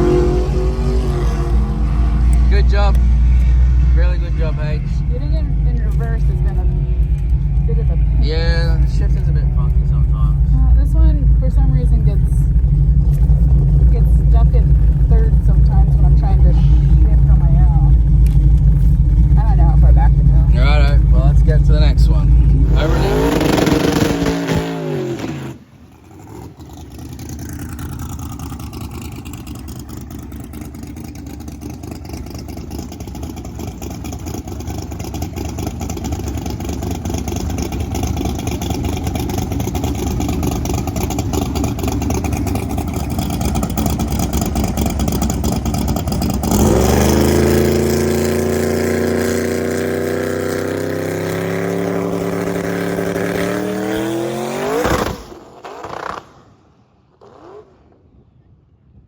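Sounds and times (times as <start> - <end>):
drag car engine accelerating: 0.0 - 58.6.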